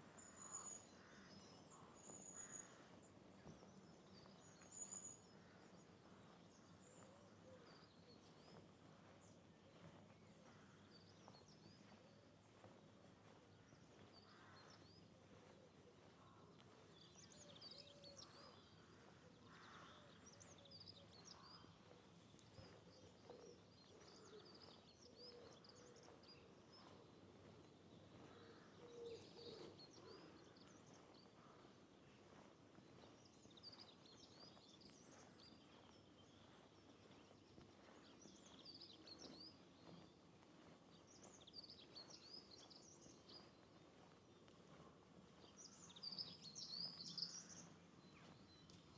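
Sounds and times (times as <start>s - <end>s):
faint background noise: 0.0s - 48.9s
songbirds chirping and twittering: 0.0s - 48.9s.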